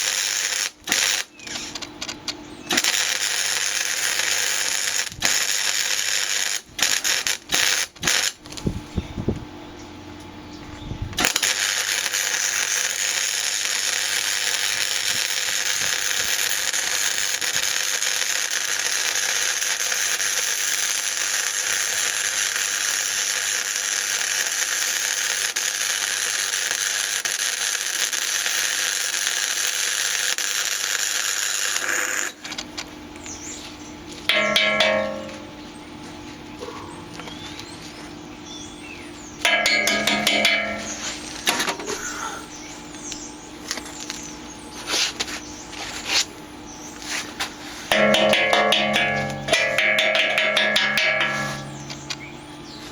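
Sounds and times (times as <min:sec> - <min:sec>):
welding arc crackling: 0:00.0 - 0:08.8, 0:11.2 - 0:35.6, 0:39.4 - 0:44.4, 0:47.1 - 0:52.9.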